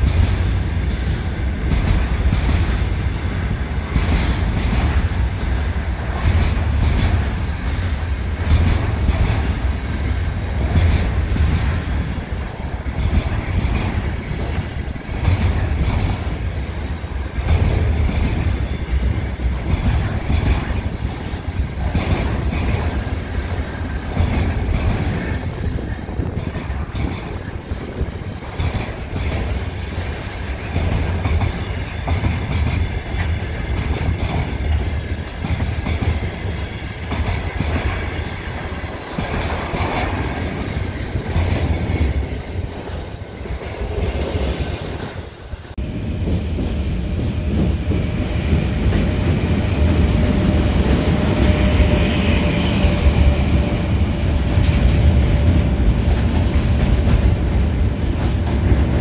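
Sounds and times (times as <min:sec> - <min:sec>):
freight train wheels clattering: 0:00.0 - 0:59.0
locomotive steady whine: 0:00.0 - 0:59.0
train rolling rumble: 0:00.0 - 0:59.0.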